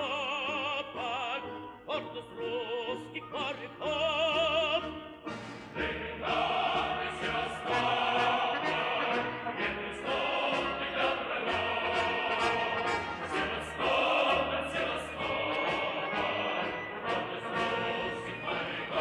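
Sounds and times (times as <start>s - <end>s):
choir singing: 0.0s - 19.0s
orchestra playing: 0.0s - 19.0s.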